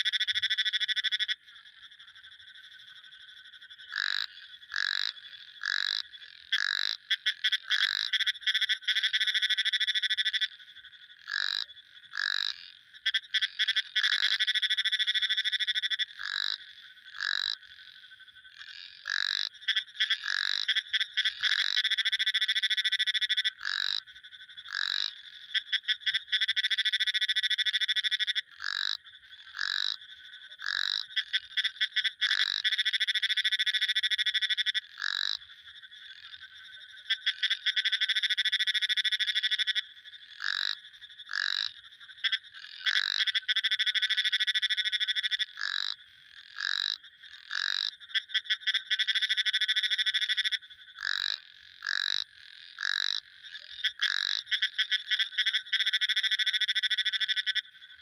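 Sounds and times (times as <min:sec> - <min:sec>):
frog single call notes: 0:00.0 - 0:58.0
frogs trilling: 0:00.0 - 0:58.0.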